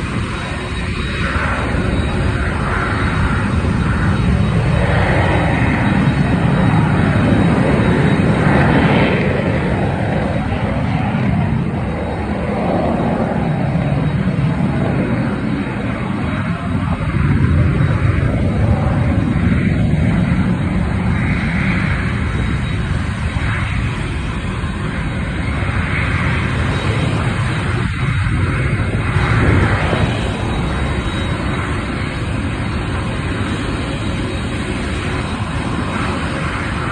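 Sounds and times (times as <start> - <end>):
jet engines rumbling: 0.0 - 36.9.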